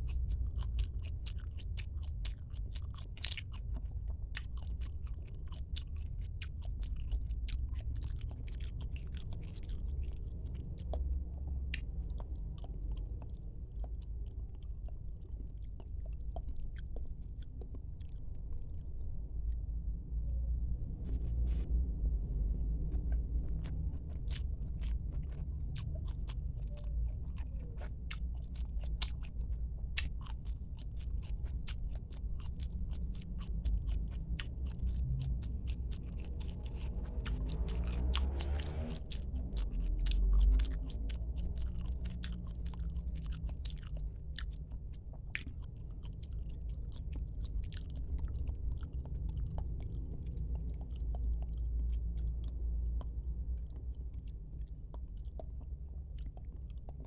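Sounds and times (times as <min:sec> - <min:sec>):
person chewing: 0:00.0 - 0:19.6, 0:20.9 - 0:57.0.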